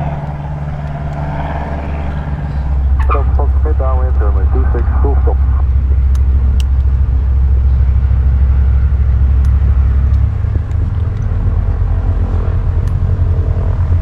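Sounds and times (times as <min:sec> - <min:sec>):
light aircraft engine rumble: 0:00.0 - 0:14.0.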